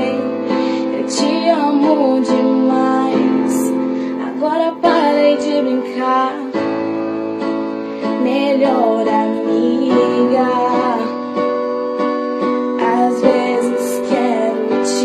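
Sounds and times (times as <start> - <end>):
woman singing wordless melody: 0.0 - 7.2, 8.1 - 11.7, 12.6 - 15.0
held keyboard chords: 0.0 - 15.0.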